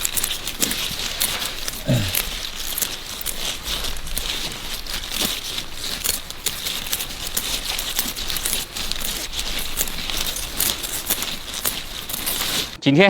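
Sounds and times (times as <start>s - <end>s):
plant material rustling and crackling: 0.0s - 12.8s.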